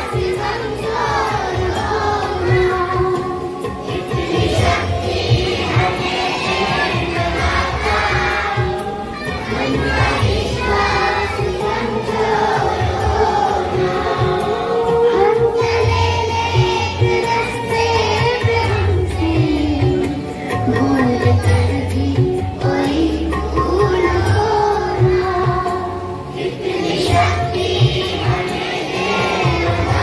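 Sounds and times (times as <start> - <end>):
children singing together: 0.0 - 30.0.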